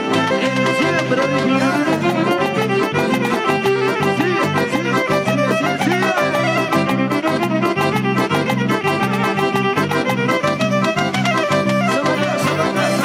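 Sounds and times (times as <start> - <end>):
electric bass: 0.0 - 13.0
keyboard: 0.0 - 13.0
steady fast beat: 0.0 - 13.0
violins playing melody: 0.0 - 13.0.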